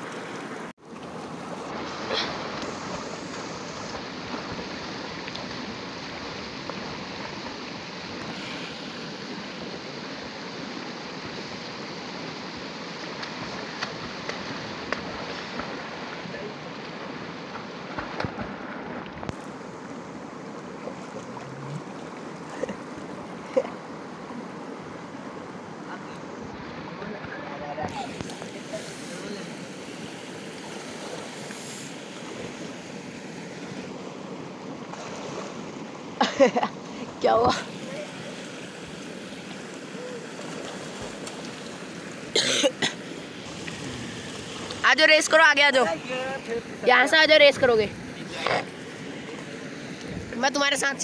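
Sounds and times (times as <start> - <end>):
river water flowing: 0.0 - 51.0.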